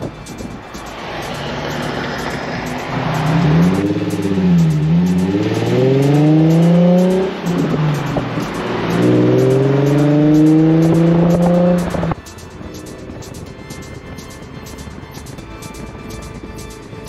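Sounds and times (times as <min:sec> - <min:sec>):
car engine accelerating hard: 0:00.0 - 0:14.2.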